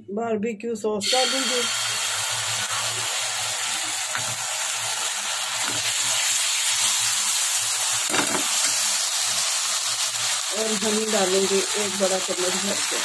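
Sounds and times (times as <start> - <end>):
sauce sizzling in a frying pan: 1.0 - 13.0.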